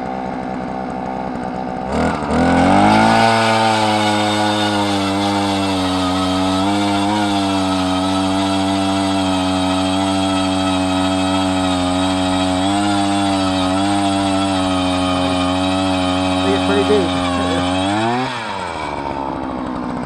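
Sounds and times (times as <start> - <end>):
gas ice auger engine drilling: 0.0 - 20.0.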